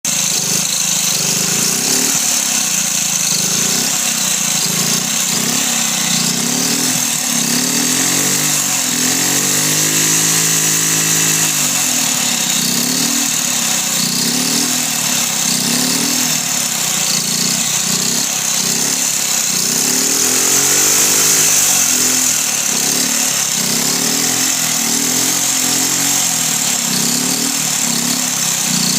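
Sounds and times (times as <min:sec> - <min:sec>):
small motorcycle engine revving: 0:00.0 - 0:28.9.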